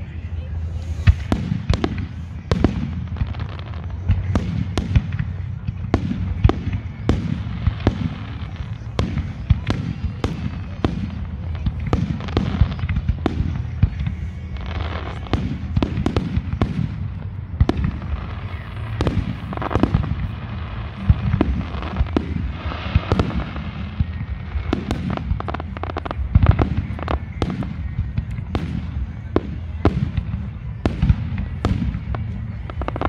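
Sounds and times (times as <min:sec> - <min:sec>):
fireworks crackling: 0:00.0 - 0:33.0
fireworks booming: 0:00.8 - 0:33.0.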